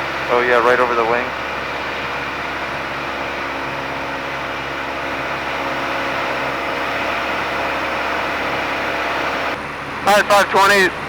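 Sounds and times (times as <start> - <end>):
small plane engine and propeller drone: 0.0 - 11.0.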